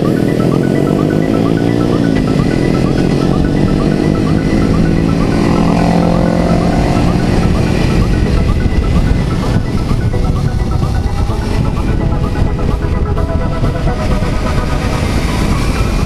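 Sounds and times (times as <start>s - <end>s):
motorcycle engine running: 0.0s - 16.0s
steady low rumble: 0.8s - 16.0s.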